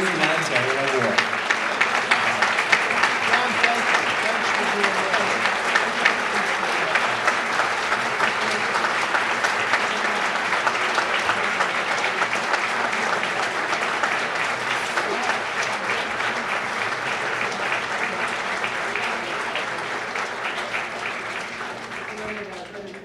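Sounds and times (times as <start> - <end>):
audience applause: 0.0 - 23.0.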